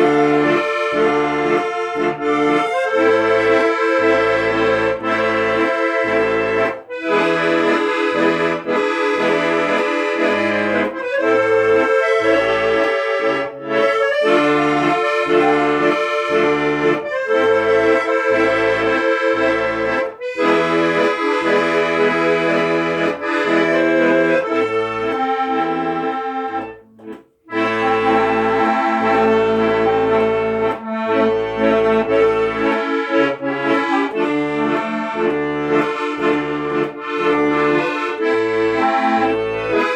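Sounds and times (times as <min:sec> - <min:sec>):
bass accompaniment: 0:00.0 - 0:39.9
instrumental music with sustained chords: 0:00.0 - 0:39.9.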